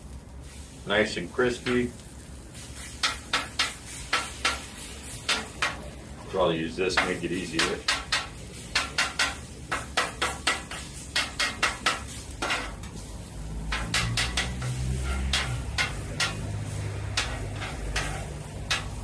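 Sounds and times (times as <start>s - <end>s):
spatulas scraping a griddle: 0.4s - 19.0s.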